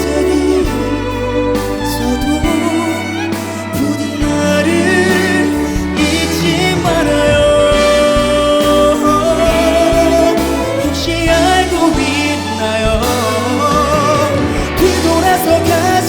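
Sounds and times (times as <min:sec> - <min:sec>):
band accompaniment: 0:00.0 - 0:16.0
person singing slow ballad: 0:00.0 - 0:16.0.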